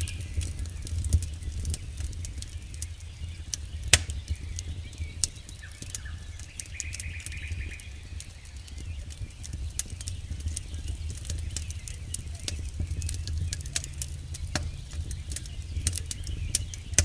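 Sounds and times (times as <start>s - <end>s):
campfire crackling and popping: 0.0s - 17.0s
low rumble of fire: 0.0s - 17.0s.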